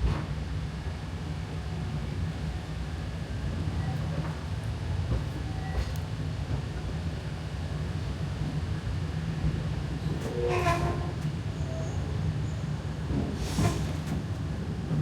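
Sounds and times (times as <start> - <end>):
steam train rumbling on track: 0.0 - 15.0.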